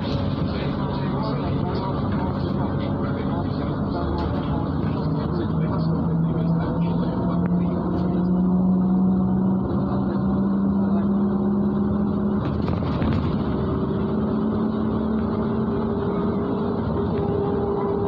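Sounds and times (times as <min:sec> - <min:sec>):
bus engine hum: 0:00.0 - 0:18.0
road noise: 0:00.0 - 0:18.0.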